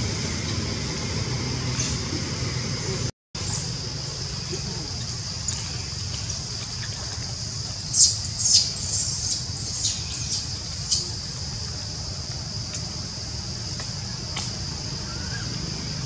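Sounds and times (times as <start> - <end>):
high-pitched hiss: 1.6 - 16.0.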